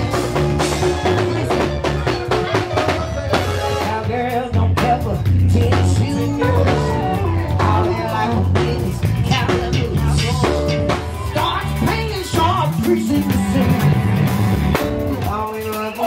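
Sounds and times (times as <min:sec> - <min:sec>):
bass: 0:00.0 - 0:16.0
drums: 0:00.0 - 0:16.0
guitar: 0:00.0 - 0:16.0
person singing: 0:00.0 - 0:16.0.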